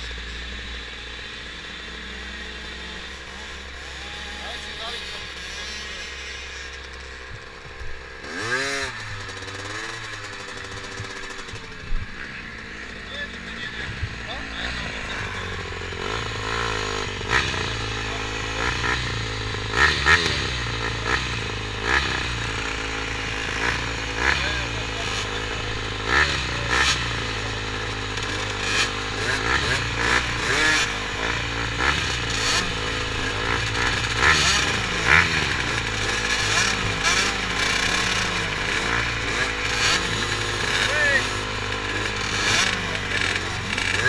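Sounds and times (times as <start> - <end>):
motocross bike engines idling: 0.0 - 44.0.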